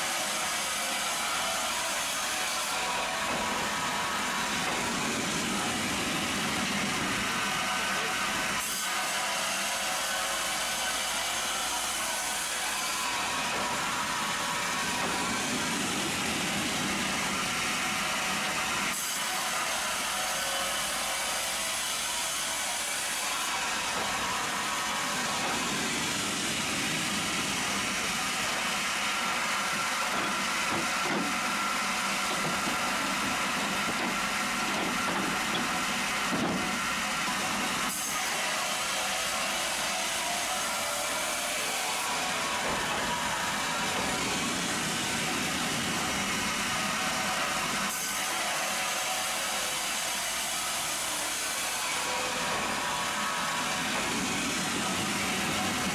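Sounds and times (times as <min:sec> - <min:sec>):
sawmill machinery running: 0:00.0 - 0:55.9.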